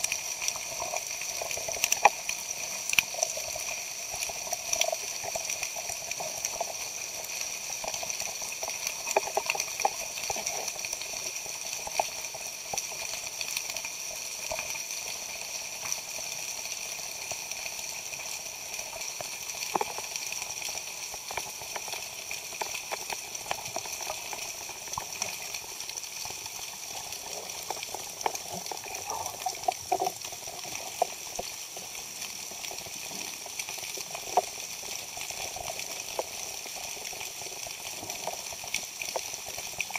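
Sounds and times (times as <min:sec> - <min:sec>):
underwater hiss: 0:00.0 - 0:39.9.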